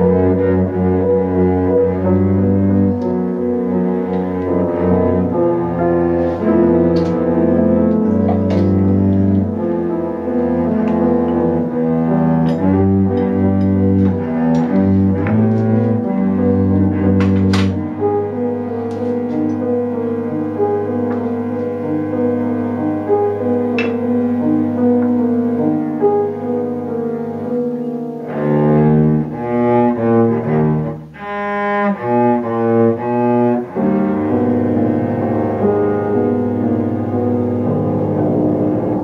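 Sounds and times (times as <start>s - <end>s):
bowed cello low notes: 0.0s - 39.0s
piano notes: 0.0s - 39.0s.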